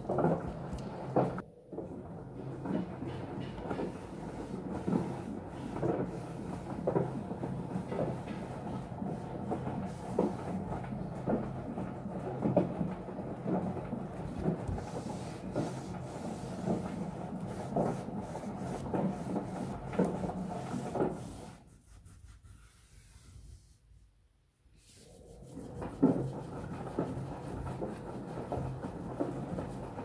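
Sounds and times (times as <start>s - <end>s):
cloth rubbing on panel: 3.8s - 12.6s, 13.4s - 30.0s.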